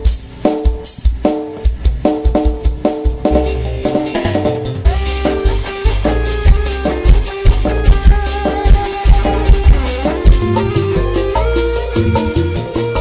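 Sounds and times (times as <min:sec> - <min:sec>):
music with drums and bass: 0:00.0 - 0:13.0.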